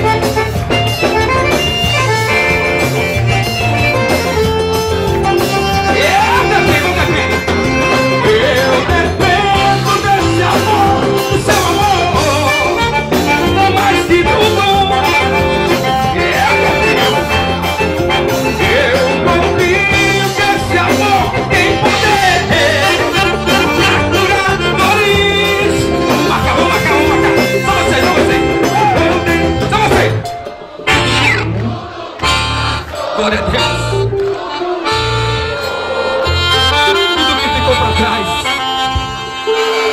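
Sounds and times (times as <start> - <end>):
accordion: 0.0 - 39.9
drums: 0.0 - 39.9
electric guitar: 0.0 - 39.9
live band playing: 0.0 - 39.9.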